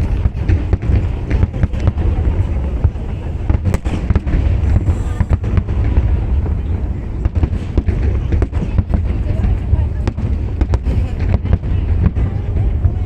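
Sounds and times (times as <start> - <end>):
fireworks booming: 0.0 - 13.0
fireworks cracking: 0.0 - 13.0.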